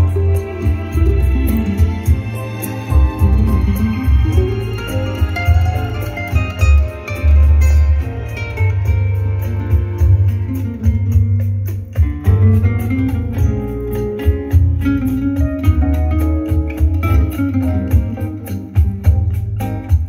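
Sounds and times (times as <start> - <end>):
deep bass line: 0.0 - 20.0
plucked guitar lead: 0.0 - 20.0.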